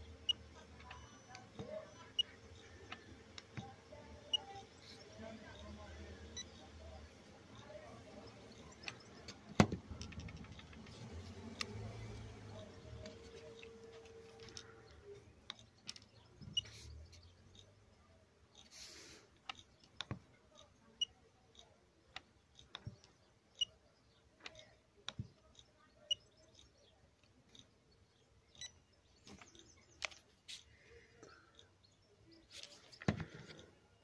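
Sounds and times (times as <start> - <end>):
light clicks and taps of gauge: 0.2 - 4.8, 7.5 - 17.8, 18.5 - 23.8, 24.4 - 27.7, 28.5 - 33.8.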